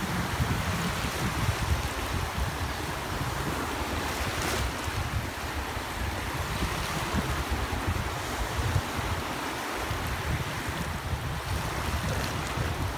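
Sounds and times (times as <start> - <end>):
small waves washing in: 0.0 - 12.9
wind buffeting microphone: 0.0 - 12.9.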